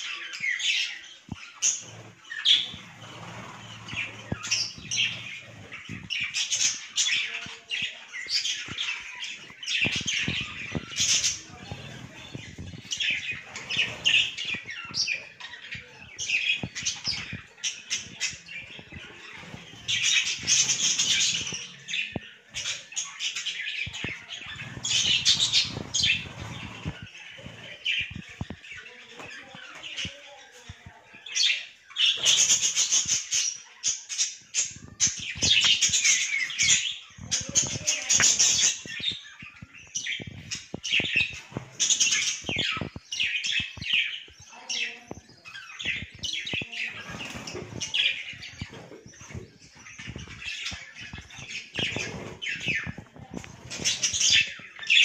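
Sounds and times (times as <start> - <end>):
budgerigars chattering and squawking: 0.0 - 55.0
loud bird chirping: 0.0 - 55.0.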